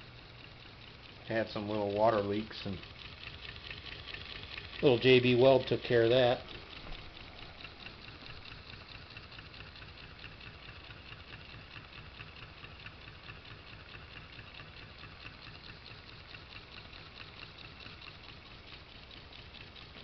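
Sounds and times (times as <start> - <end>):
small engine ticking: 0.0 - 20.0.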